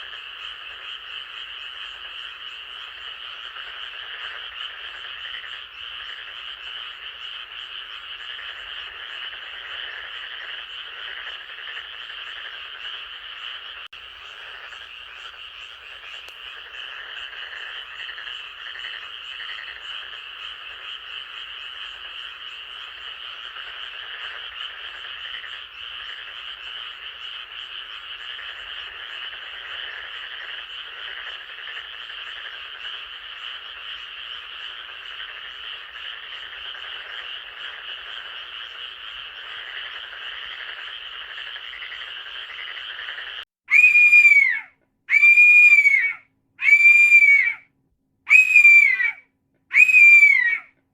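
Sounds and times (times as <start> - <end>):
frogs chorus trilling: 0.0 - 47.6, 48.3 - 50.6.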